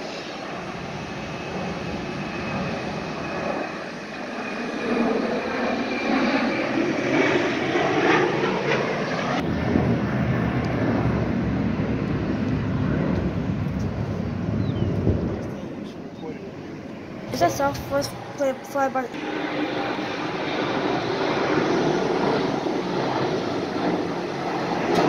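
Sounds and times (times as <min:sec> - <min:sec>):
jet engines roaring at takeoff: 0:00.0 - 0:25.0.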